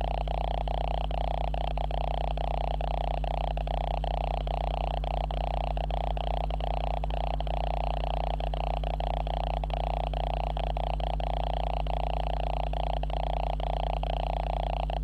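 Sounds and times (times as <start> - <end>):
electronic buzz and hum: 0.0 - 15.0.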